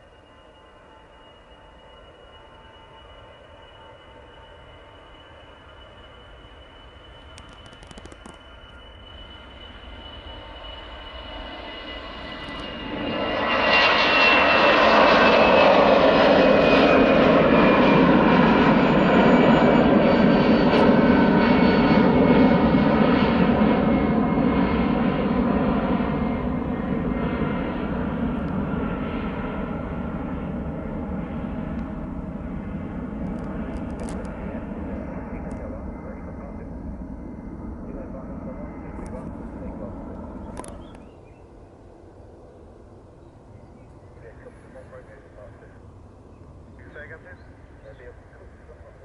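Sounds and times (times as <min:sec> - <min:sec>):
airliner engine roar: 0:00.0 - 0:49.0
airliner engine whine: 0:00.0 - 0:49.0.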